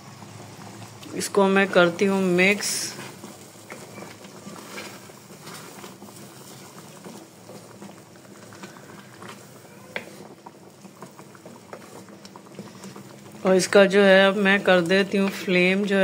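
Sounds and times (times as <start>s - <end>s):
sauce bubbling and popping in pan: 0.0s - 16.0s.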